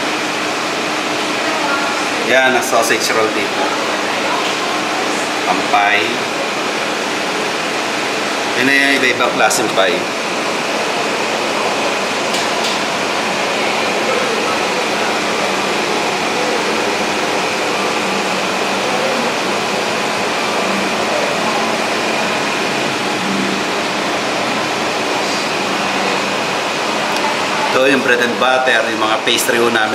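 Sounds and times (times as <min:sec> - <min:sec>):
ventilation rushing hiss: 0:00.0 - 0:29.9.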